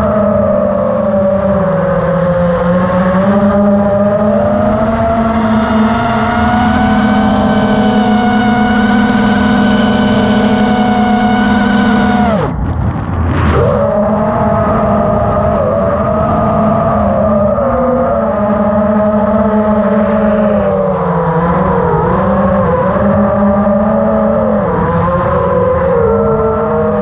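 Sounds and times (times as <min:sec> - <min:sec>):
quadcopter motors buzzing whine: 0:00.0 - 0:27.0.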